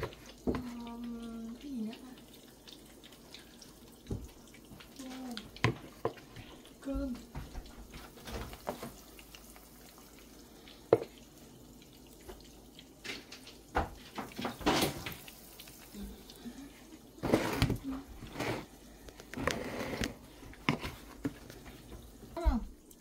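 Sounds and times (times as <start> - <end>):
tap water running: 0.0 - 23.0.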